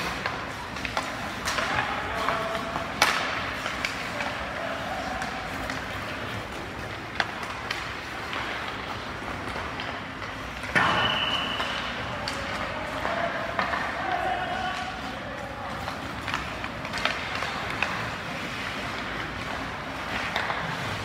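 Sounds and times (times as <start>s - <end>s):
crowd noise echoing in a hall: 0.0s - 21.0s.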